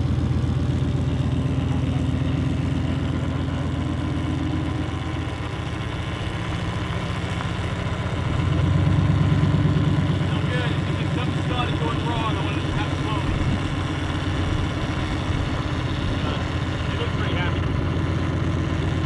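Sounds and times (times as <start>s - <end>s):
van engine running: 0.0s - 19.0s.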